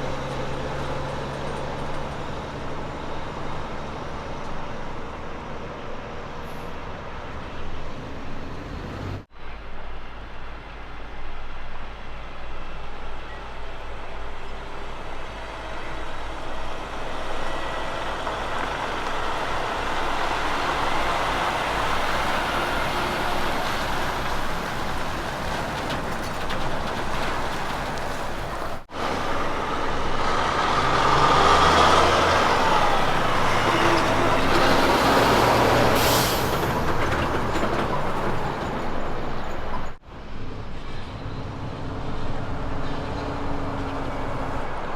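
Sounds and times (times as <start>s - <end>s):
trucks driving by: 0.0s - 44.9s.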